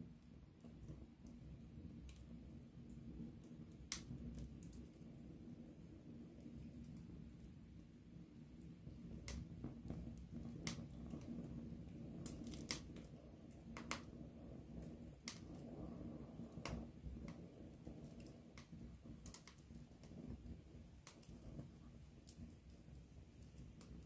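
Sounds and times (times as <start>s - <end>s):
burning wood crackling and popping: 0.0s - 24.0s
campfire flames rumbling: 0.0s - 24.0s.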